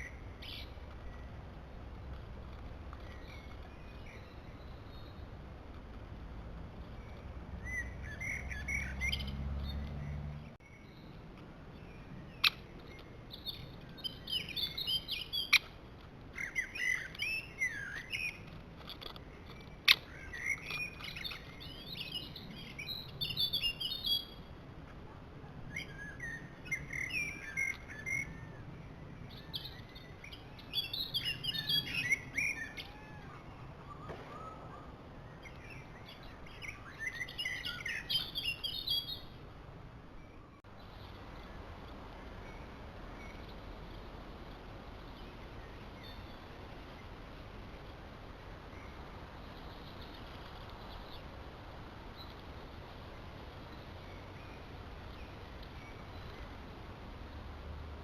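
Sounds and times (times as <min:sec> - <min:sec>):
small birds chirping and singing: 0:00.0 - 0:06.0, 0:06.7 - 0:39.5, 0:40.2 - 0:57.4.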